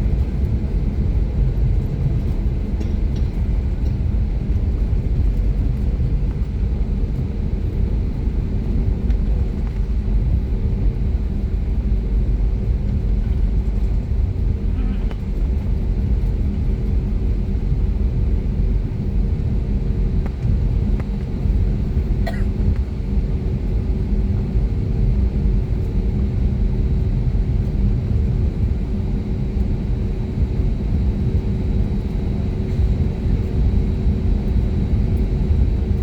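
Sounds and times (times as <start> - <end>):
jet engine low rumble in cabin: 0.0 - 36.0.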